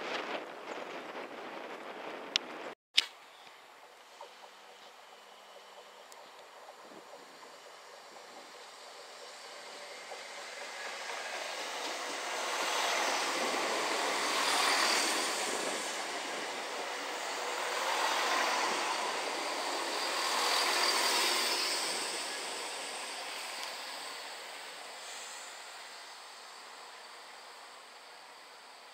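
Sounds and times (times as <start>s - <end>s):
train wheels and diesel engines: 0.0s - 28.9s.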